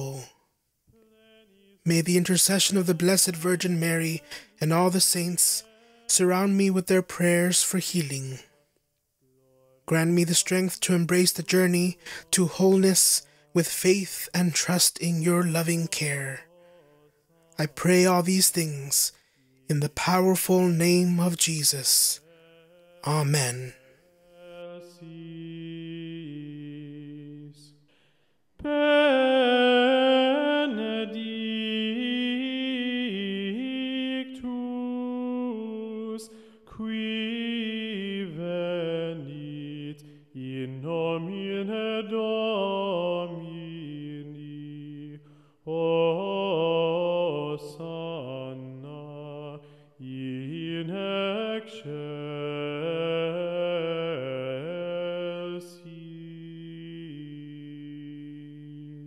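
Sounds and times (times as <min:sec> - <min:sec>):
solemn sung chant: 0:00.0 - 0:08.6, 0:09.2 - 0:28.0, 0:28.6 - 0:59.0.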